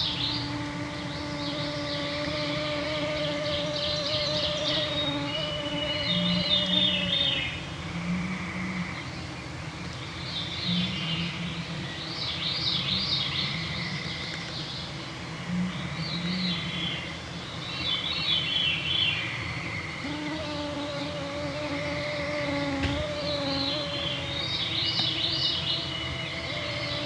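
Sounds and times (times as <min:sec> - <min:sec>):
mosquitoes droning: 0:00.0 - 0:27.0
songbirds singing: 0:00.0 - 0:27.0.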